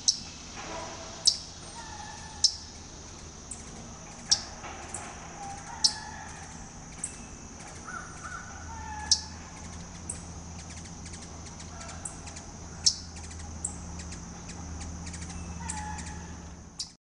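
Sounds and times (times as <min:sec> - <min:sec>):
steady high-pitched hum: 0:00.0 - 0:17.0.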